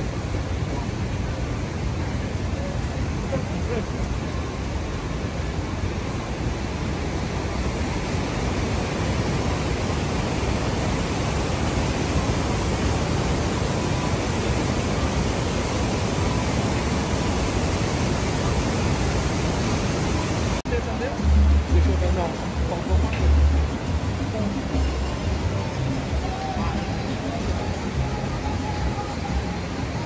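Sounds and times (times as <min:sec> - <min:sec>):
loud steady rushing noise: 0:00.0 - 0:30.0.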